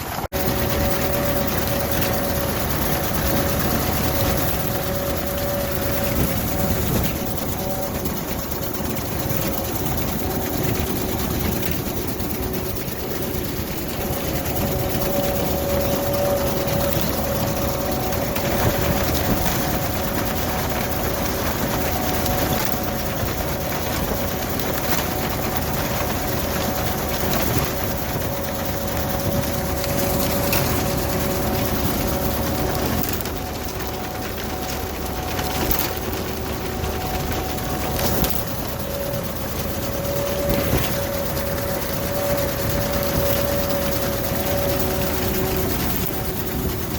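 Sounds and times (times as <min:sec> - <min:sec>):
machinery whine: 0:00.0 - 0:46.9
tractor engine running: 0:00.0 - 0:46.9.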